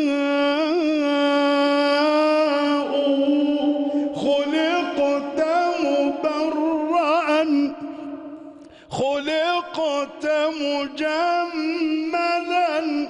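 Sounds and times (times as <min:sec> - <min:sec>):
man singing devotional chant: 0:00.0 - 0:07.9, 0:08.9 - 0:13.0.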